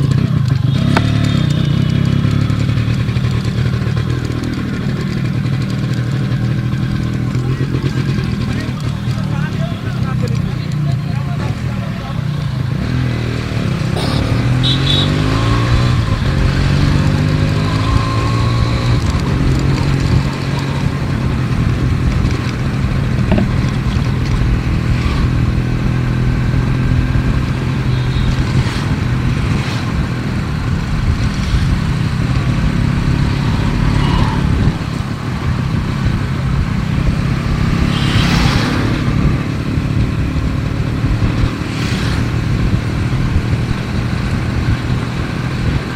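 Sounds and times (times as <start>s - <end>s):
two-stroke motorcycle engine running: 0.0s - 45.9s.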